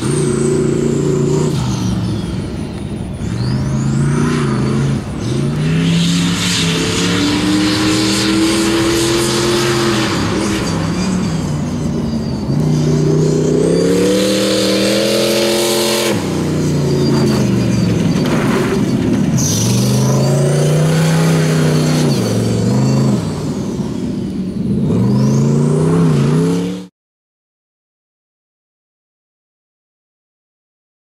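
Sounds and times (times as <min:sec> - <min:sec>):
race vehicle engine revving: 0:00.0 - 0:26.9.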